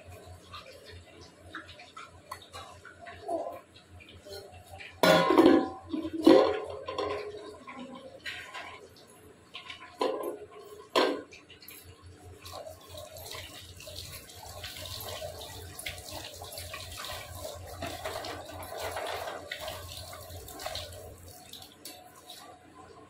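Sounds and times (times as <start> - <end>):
water running and splashing: 0.0 - 23.0.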